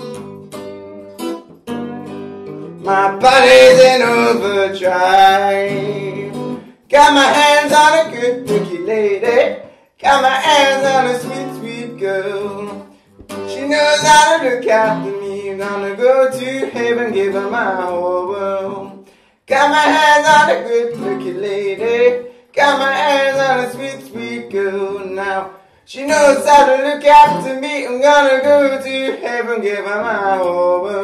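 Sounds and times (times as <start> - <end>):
acoustic guitar: 0.0 - 31.0
man singing: 2.6 - 31.0.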